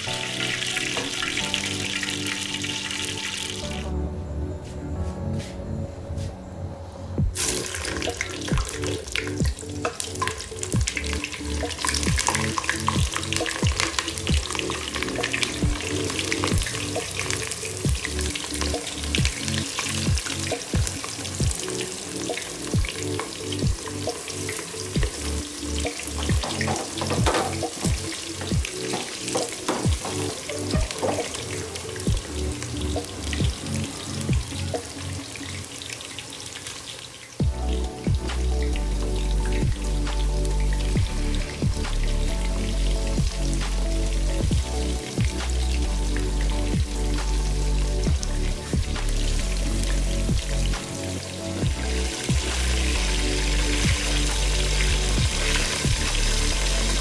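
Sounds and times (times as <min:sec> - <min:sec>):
food sizzling in hot oil: 0:00.0 - 0:03.8, 0:07.4 - 0:37.4, 0:42.4 - 0:57.0
oil crackling and popping: 0:00.0 - 0:03.9, 0:07.4 - 0:57.0.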